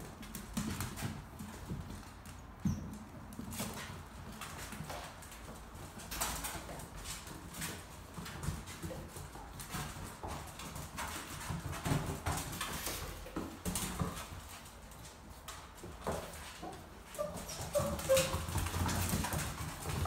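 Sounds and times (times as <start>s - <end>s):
puppy claws clicking on floor: 0.0s - 20.0s.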